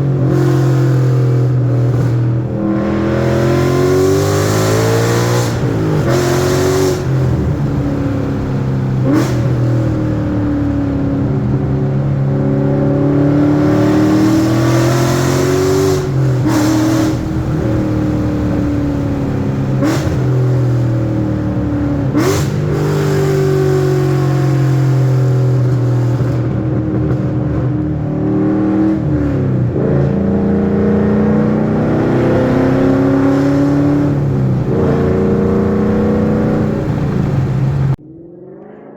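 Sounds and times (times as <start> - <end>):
car exhaust engine note: 0.0 - 38.9.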